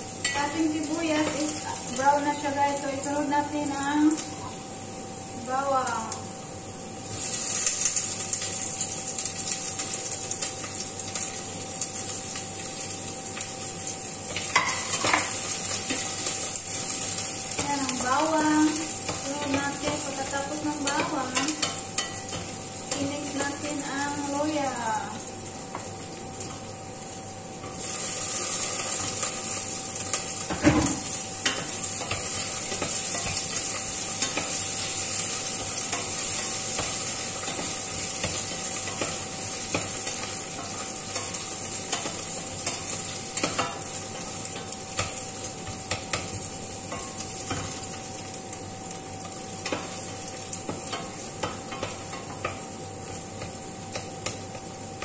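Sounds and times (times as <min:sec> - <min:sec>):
onion and garlic sizzling: 0:00.0 - 0:55.0.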